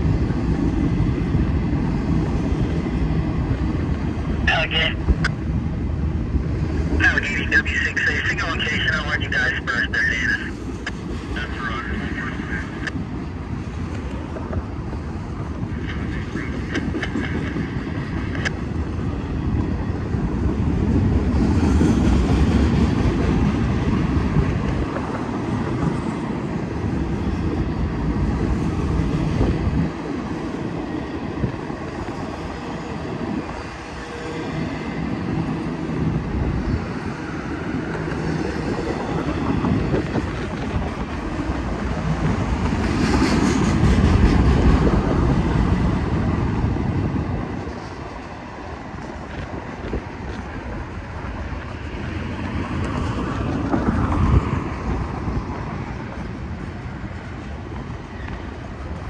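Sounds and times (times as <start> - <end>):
train wheels on rails: 10.4 - 59.0.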